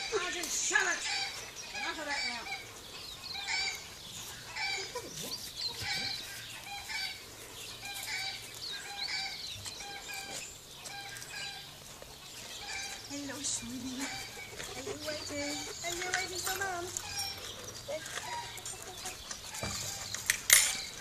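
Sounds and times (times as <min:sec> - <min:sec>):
hens cackling: 0:00.0 - 0:21.0.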